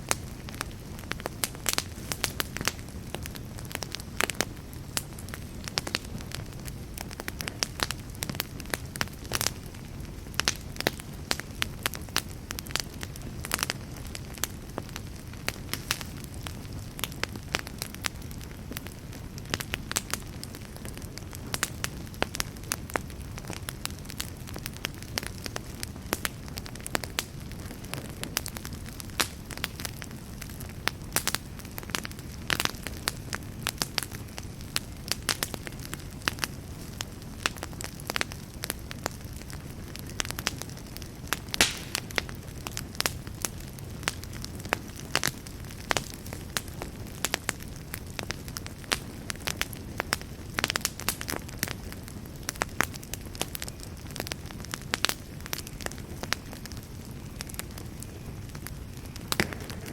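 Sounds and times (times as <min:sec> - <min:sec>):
low rush of flames: 0:00.0 - 0:59.9
wood fire crackling and popping: 0:00.0 - 0:59.9.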